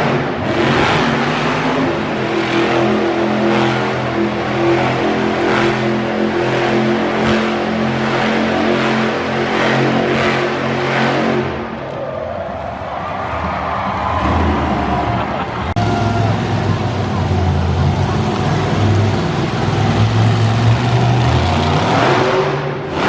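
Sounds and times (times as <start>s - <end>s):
loud truck engine running: 0.0s - 11.9s, 13.3s - 23.0s.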